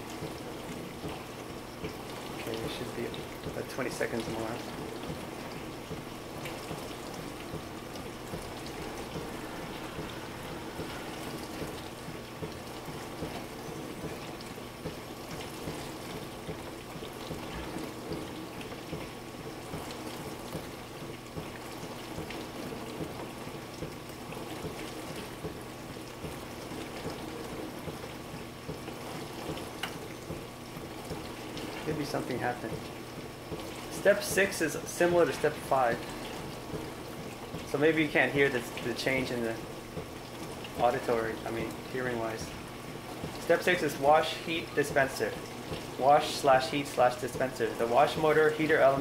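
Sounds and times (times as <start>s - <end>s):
dishwasher motor humming: 0.0s - 49.0s
water spraying and splashing: 0.0s - 49.0s.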